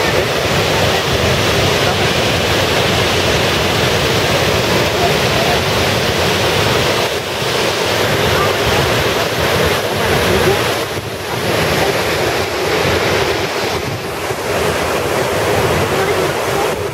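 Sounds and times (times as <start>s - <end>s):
waterfall rushing: 0.0s - 16.9s
wind buffeting microphone: 0.0s - 16.9s.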